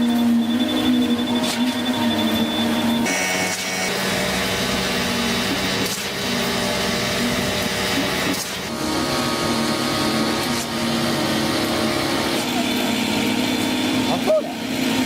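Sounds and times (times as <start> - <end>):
machine motor whining hum: 0.0 - 15.0.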